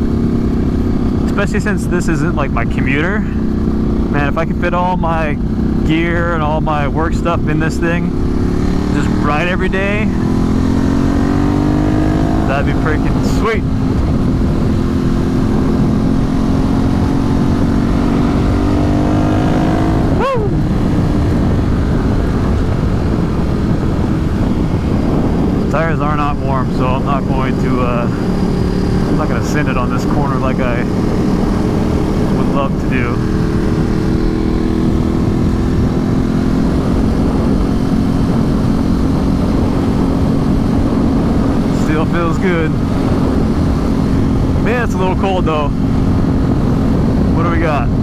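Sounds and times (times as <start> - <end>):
wind and road noise: 0.0 - 48.0
motorcycle engine pulling: 5.4 - 48.0.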